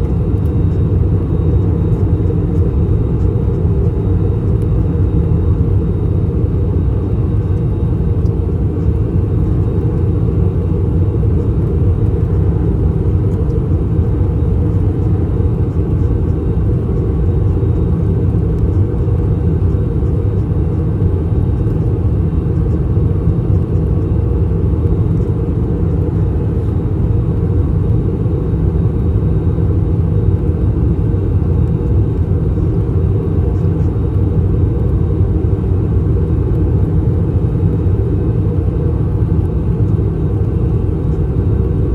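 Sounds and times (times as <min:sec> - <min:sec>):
airplane cabin drone: 0:00.0 - 0:41.9.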